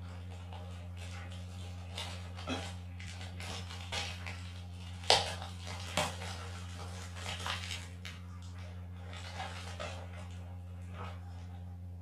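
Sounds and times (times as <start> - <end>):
bubble wrap and cardboard crinkling: 0.0 - 11.8
low hum: 0.0 - 12.0.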